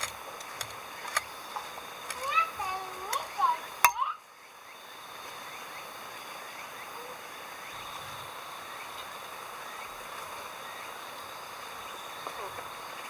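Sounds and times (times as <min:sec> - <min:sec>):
insect chorus chirring: 0:00.0 - 0:13.0.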